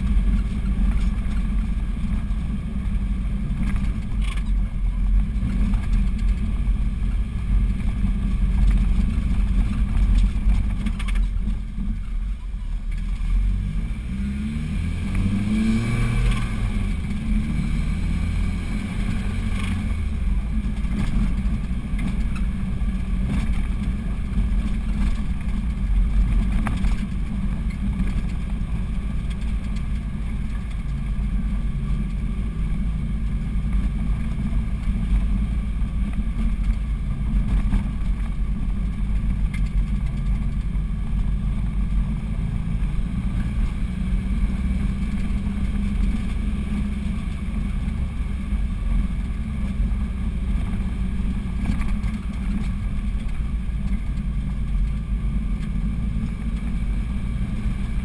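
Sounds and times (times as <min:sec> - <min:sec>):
car engine running inside cabin: 0:00.0 - 0:58.0.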